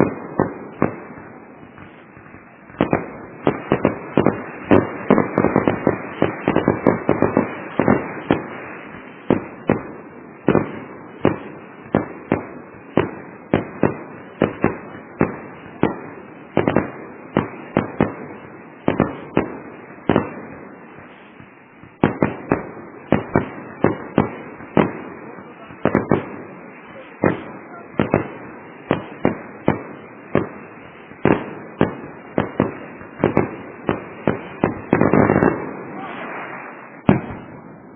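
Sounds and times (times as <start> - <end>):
fireworks bangs: 0.0 - 37.9
fireworks crackle: 0.0 - 37.9.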